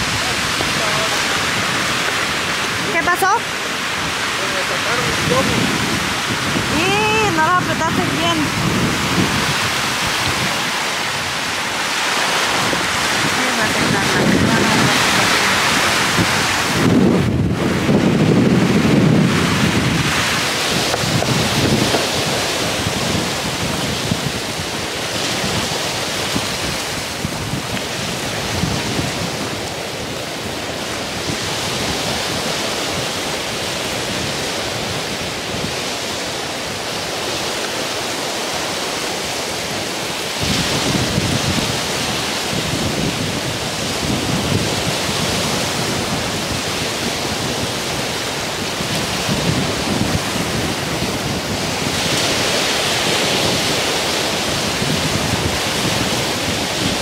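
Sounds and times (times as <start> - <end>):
waves breaking on rocks: 0.0 - 57.0
wind buffeting microphone: 0.0 - 57.0.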